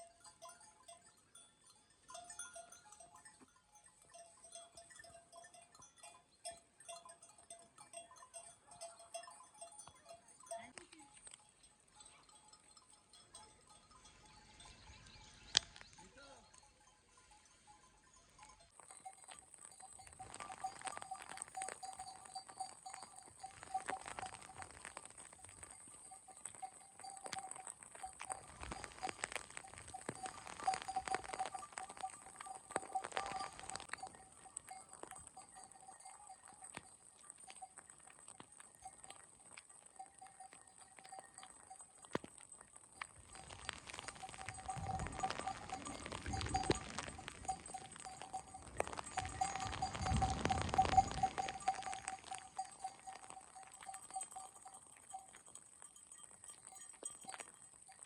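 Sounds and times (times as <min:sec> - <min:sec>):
rain pattering: 0:00.0 - 0:05.8, 0:06.4 - 0:16.6, 0:18.4 - 0:58.0
livestock bells clinking: 0:00.0 - 0:58.0.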